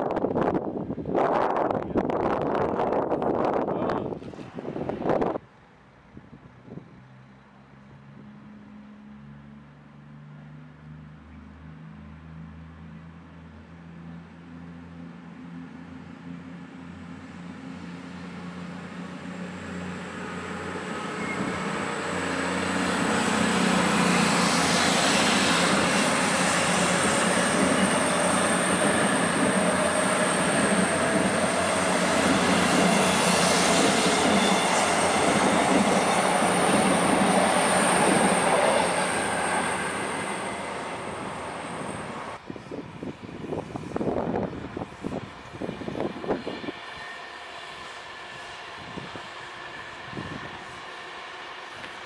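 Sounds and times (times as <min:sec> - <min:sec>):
train passing at speed: 0:00.0 - 0:05.9, 0:06.5 - 0:52.0.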